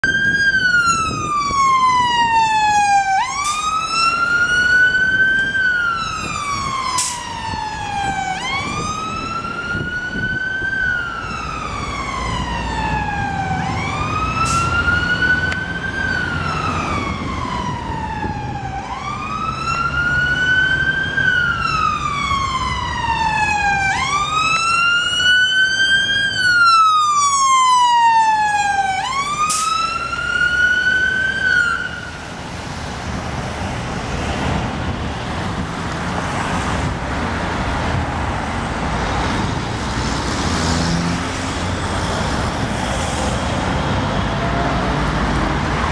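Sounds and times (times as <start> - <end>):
fire engine siren wailing: 0.0 - 45.9.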